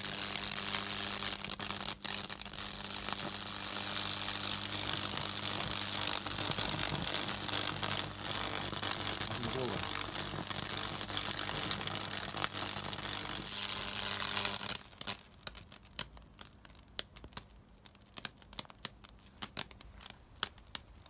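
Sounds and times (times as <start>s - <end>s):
electrical arcing crackle: 0.0s - 21.0s
faint crackles and ticks: 0.0s - 21.0s
low electrical hum: 0.0s - 21.0s.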